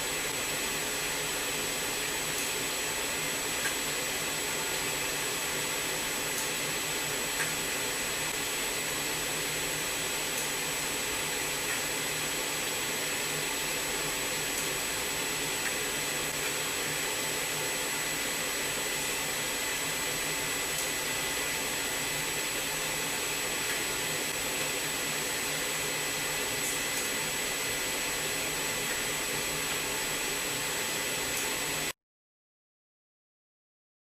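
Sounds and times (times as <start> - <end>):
constant high whine: 0.0 - 31.9
machining center whirring hiss: 0.0 - 31.9.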